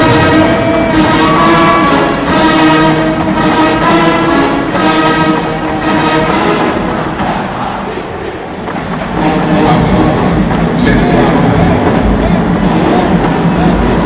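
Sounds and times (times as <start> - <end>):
brass section playing chords: 0.0 - 14.0
steady drum beat: 0.0 - 14.0.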